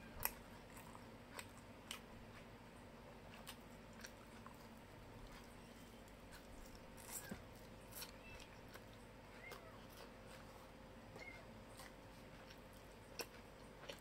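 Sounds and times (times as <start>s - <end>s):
small chewing squeaks: 0.0s - 14.0s.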